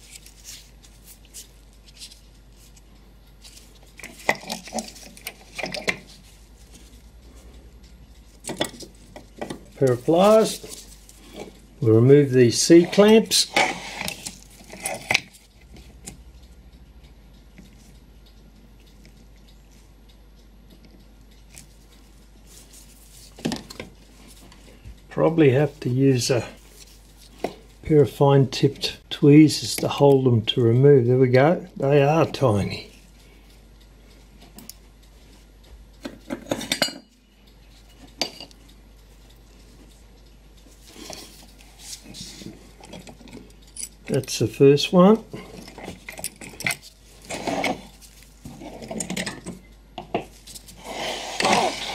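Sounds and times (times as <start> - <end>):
soft handling noise: 0.0 - 16.3, 20.7 - 29.0, 31.4 - 51.9
low steady hum: 0.0 - 51.9.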